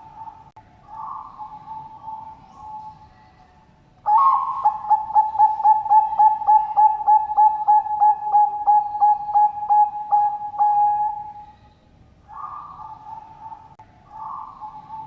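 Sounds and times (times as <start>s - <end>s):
dove cooing: 0.0s - 3.1s, 4.1s - 11.6s, 12.3s - 15.0s.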